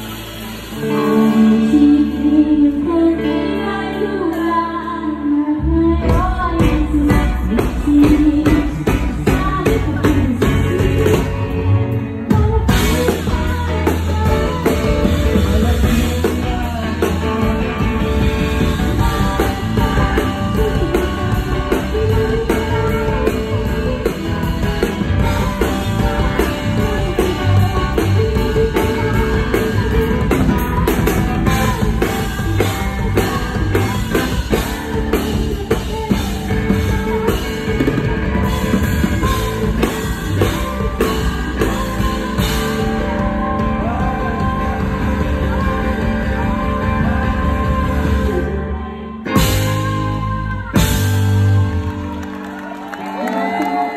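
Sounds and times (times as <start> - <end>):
drum kit: 0.0 - 4.8, 5.6 - 53.9
electric guitars: 0.0 - 53.9
woman singing lead: 0.0 - 53.9.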